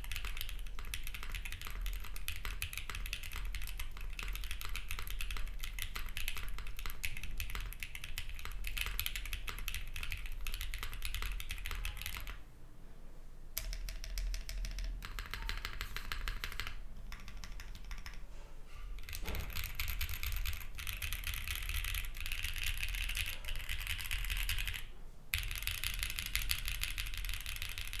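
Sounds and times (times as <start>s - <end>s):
typing on mechanical keyboard: 0.0s - 12.4s, 13.6s - 18.2s, 19.0s - 28.0s.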